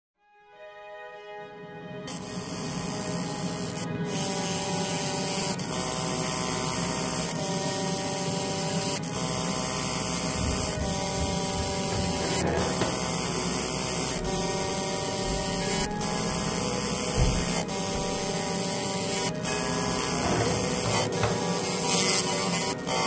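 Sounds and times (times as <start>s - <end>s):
background music sustained tones: 0.2s - 23.0s
laser buzzing hiss: 2.1s - 23.0s.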